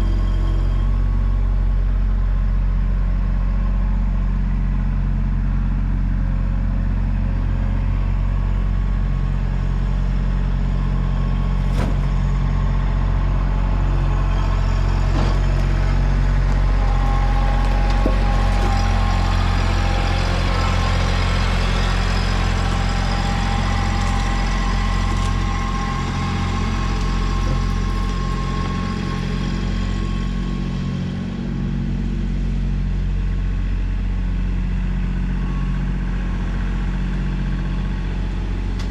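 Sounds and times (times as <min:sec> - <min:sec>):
vehicle engine humming: 0:00.0 - 0:33.7.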